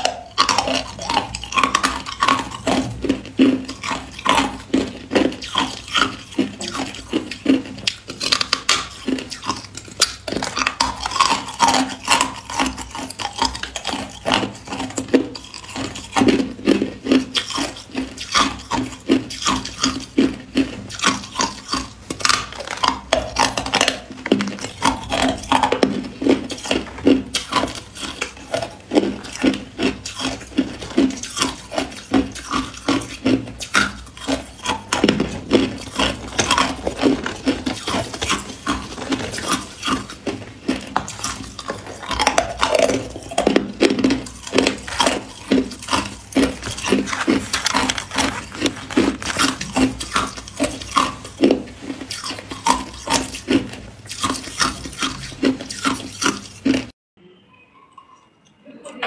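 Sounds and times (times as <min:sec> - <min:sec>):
ice crunching being chewed: 0:00.0 - 0:57.0.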